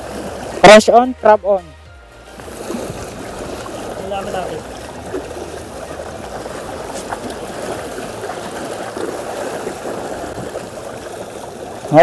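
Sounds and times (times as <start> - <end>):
seawater lapping against rocks: 0.0 - 12.0.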